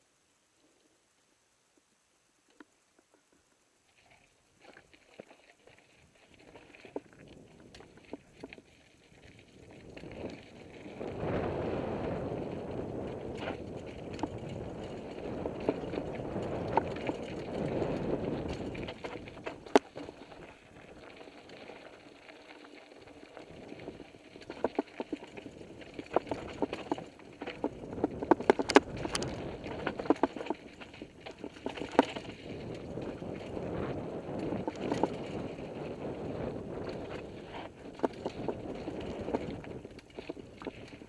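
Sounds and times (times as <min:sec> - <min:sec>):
bike rattling over rocks: 0:04.6 - 0:41.0
bike tyres crunching over gravel: 0:04.9 - 0:41.0.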